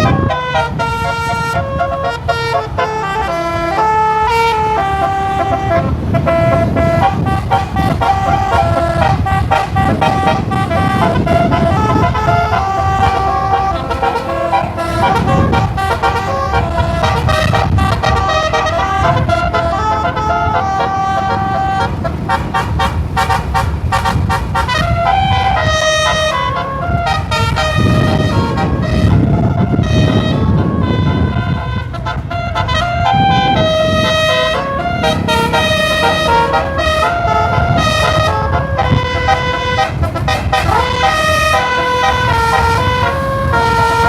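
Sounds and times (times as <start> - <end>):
bus engine and road rumble: 0.0 - 44.0
multi-tone bus horn tune: 0.0 - 44.0.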